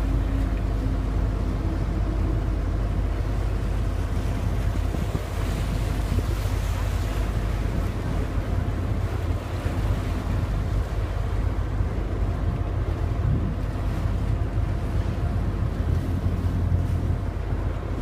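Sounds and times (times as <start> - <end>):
boat engine rumble: 0.0 - 18.0
wind buffeting microphone: 0.0 - 18.0.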